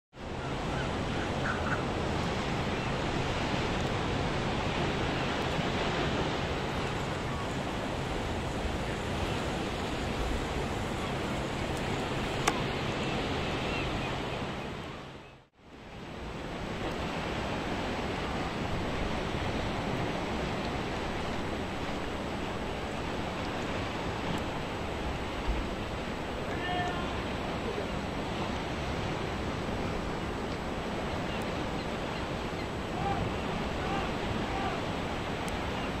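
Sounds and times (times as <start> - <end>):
open sea: 0.1 - 36.0
wind: 0.1 - 36.0.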